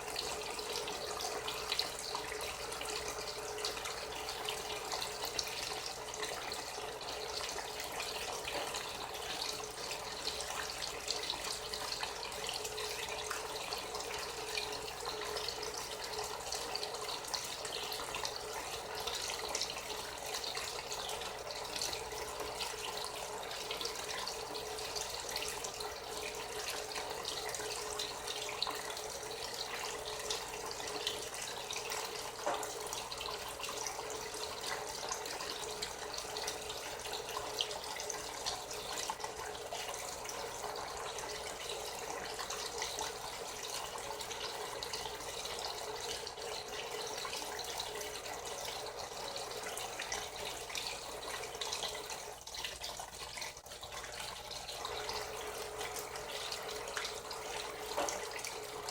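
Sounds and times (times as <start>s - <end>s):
water running and splashing: 0.0s - 58.9s.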